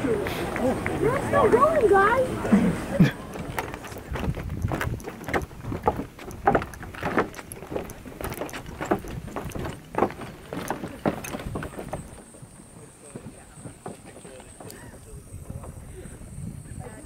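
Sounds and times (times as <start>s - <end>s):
footsteps on wooden boardwalk: 0.0s - 16.2s.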